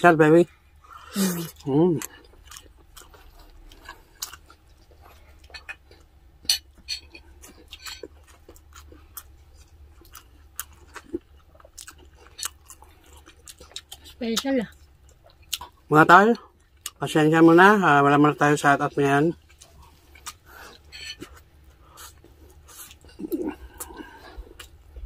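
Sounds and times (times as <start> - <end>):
man chewing food: 0.5 - 17.5, 18.4 - 25.0.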